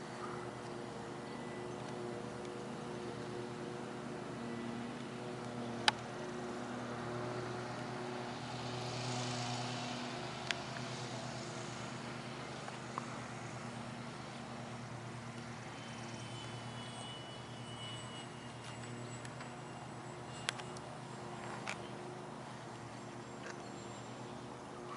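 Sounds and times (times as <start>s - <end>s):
model airplane engine droning: 0.0s - 24.9s.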